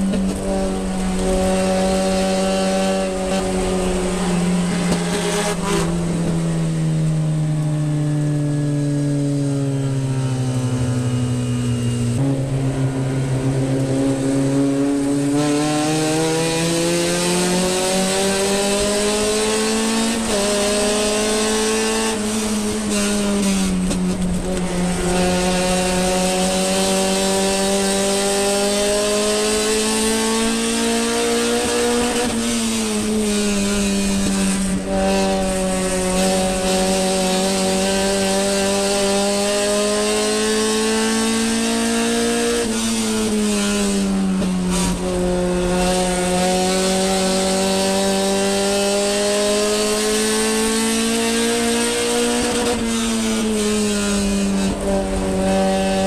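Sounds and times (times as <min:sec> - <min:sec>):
race car engine: 0:00.0 - 0:56.0
wind and road noise: 0:00.0 - 0:56.0.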